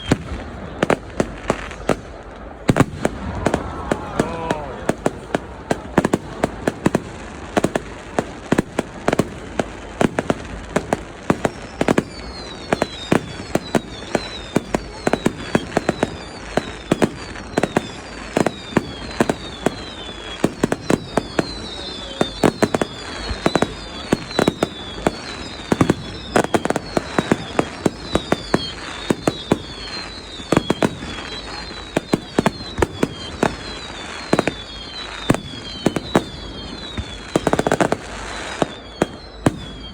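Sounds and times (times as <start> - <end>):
fireworks bangs: 0.0 - 39.9
fireworks whistling: 0.0 - 39.9.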